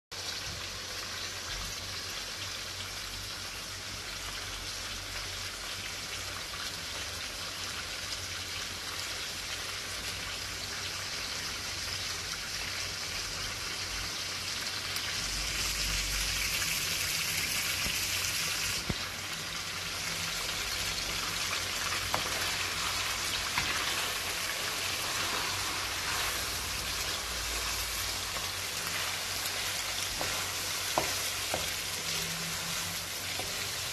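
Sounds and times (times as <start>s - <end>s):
meat sizzling in hot oil: 0.1s - 33.9s.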